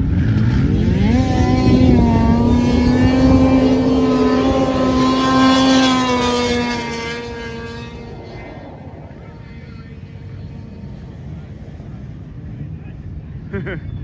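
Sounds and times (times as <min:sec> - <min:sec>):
snowmobile engine racing past: 0:00.0 - 0:12.3.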